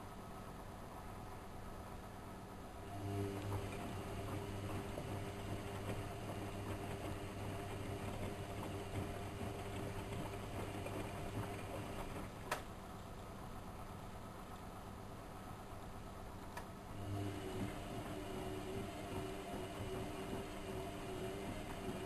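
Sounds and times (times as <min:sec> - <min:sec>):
washing machine motor humming: 0:02.0 - 0:22.0.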